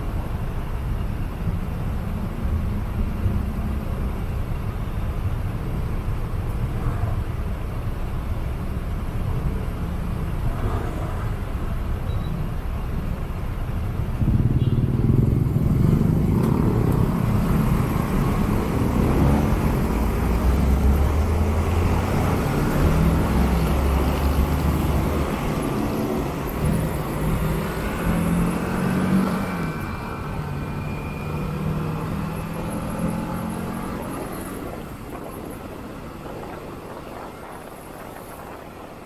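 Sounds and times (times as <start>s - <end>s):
drone of surrounding traffic: 0.0s - 39.0s.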